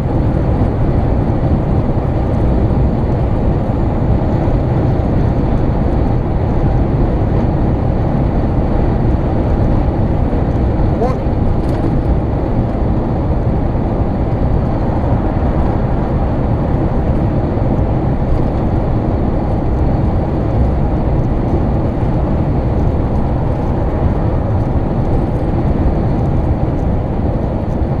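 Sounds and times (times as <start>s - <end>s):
vehicle road and engine rumble: 0.0s - 28.0s.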